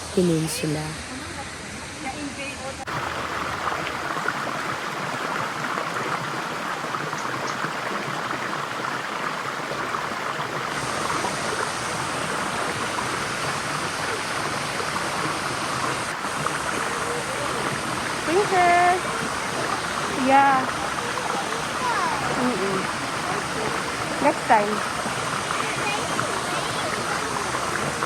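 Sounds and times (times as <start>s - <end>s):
waterfall rushing: 2.9s - 28.0s.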